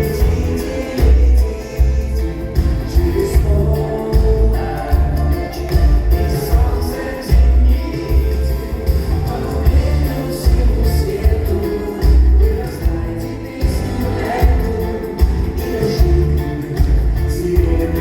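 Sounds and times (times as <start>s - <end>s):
band with heavy bass: 0.0s - 18.0s
person singing: 0.0s - 18.0s.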